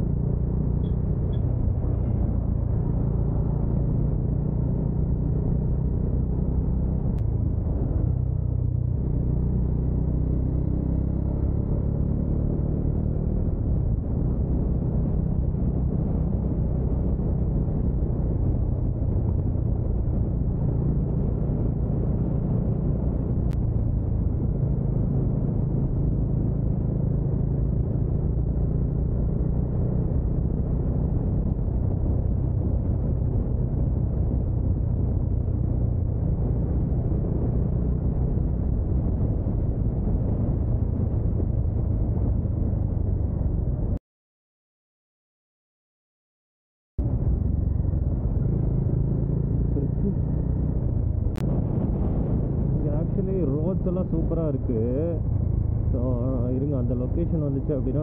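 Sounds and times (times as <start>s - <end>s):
motorcycle engine cruising: 0.0s - 44.0s, 47.0s - 58.0s
road and wind rumble: 0.0s - 44.0s, 47.0s - 58.0s.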